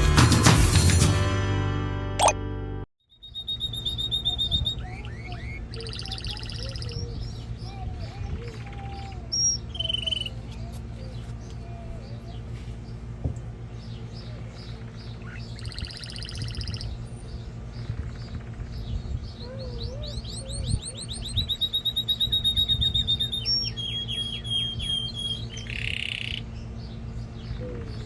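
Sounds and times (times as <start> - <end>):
canary singing: 3.1 - 28.0.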